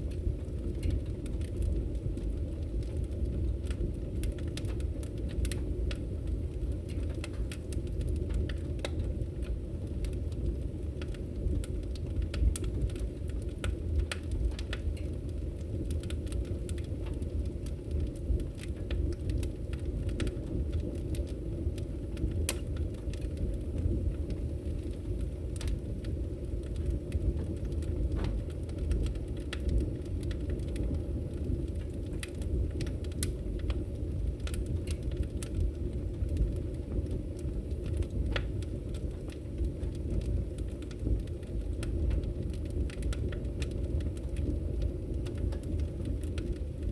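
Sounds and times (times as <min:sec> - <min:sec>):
log fire burning: 0:00.0 - 0:46.9
logs crackling and popping: 0:00.0 - 0:46.9.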